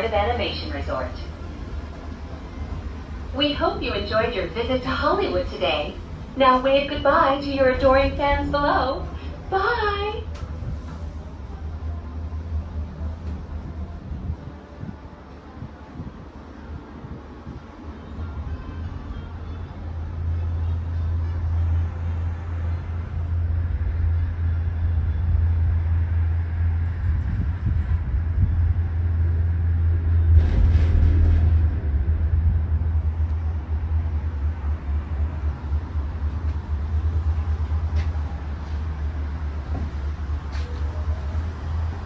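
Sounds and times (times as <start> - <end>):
gondola cabin low rumble: 0.0 - 42.0.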